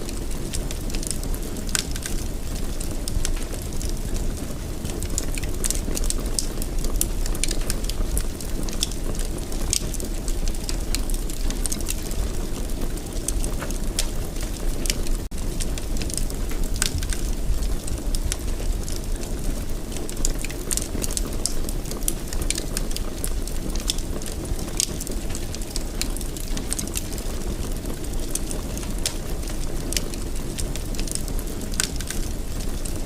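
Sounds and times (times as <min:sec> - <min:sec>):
fireplace fire crackling: 0:00.0 - 0:33.0.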